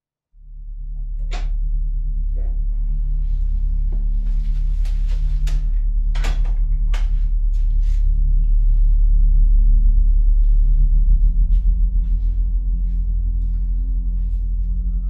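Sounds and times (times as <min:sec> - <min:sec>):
ominous low drone: 0:00.0 - 0:15.0.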